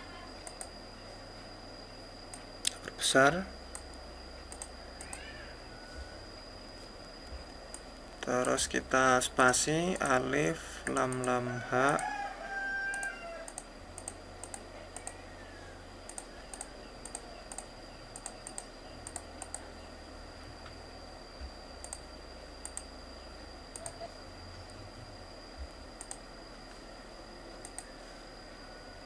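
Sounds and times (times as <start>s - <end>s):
faint steady high whine: 0.0s - 29.0s.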